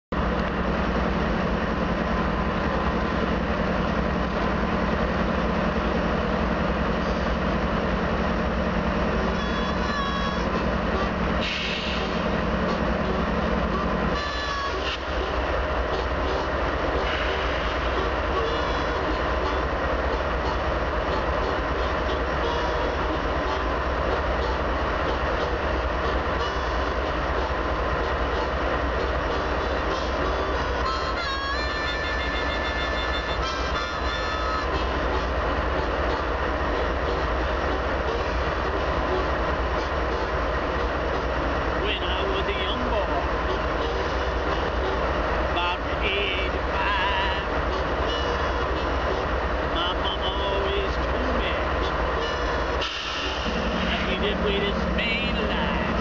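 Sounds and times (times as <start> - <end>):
diesel locomotive engine drone: 0.0 - 56.0
train wheels rumbling on rails: 0.1 - 56.0.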